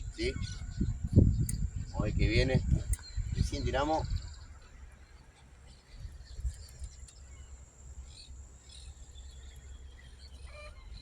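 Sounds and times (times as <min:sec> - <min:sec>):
faint bird chirps: 0:00.0 - 0:11.0
wind rumble on microphone: 0:00.0 - 0:11.0.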